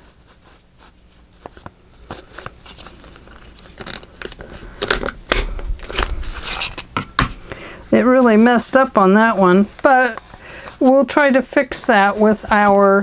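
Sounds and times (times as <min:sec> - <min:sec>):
paper envelope rustling: 0:00.5 - 0:07.3, 0:08.2 - 0:13.0.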